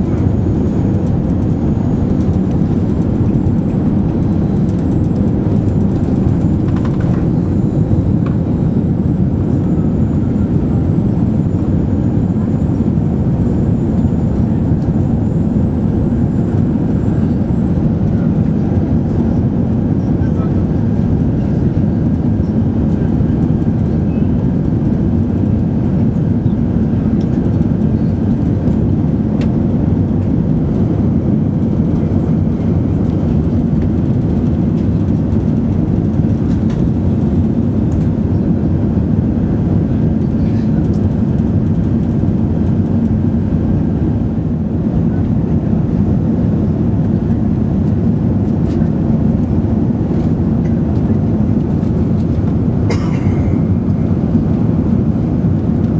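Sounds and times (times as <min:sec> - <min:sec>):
airplane cabin noise: 0:00.0 - 0:55.9.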